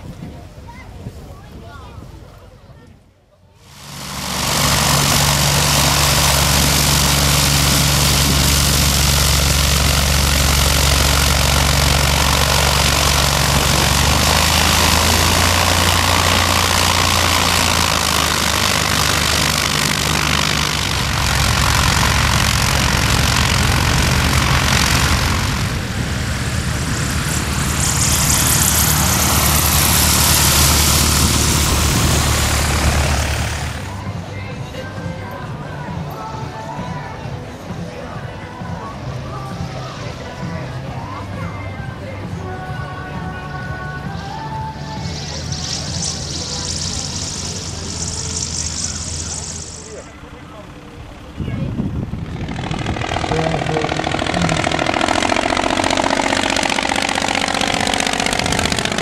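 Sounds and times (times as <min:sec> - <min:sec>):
light aircraft engine taxiing: 0:03.6 - 0:59.0
light plane engine taking off: 0:03.6 - 0:59.0.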